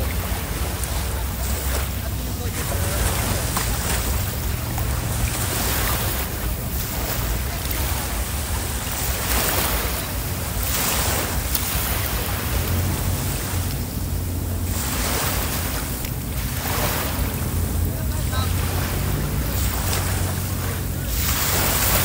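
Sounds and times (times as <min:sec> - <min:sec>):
sea waves: 0:00.0 - 0:22.0
steady low rumble: 0:00.0 - 0:22.0.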